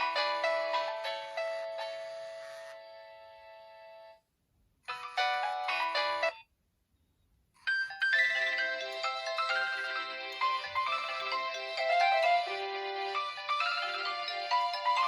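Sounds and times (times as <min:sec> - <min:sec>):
polyphonic ringtone melodies: 0:00.0 - 0:04.1, 0:04.9 - 0:06.4, 0:07.7 - 0:15.0.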